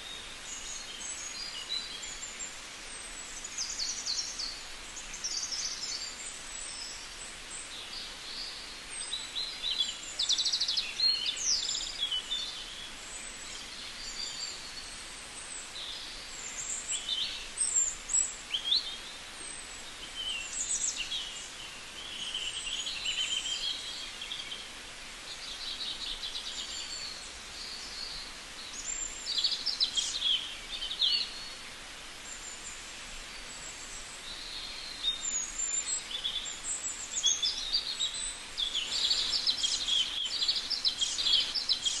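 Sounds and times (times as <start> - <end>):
faint hiss: 0.0 - 42.0
small birds chirping: 0.0 - 42.0.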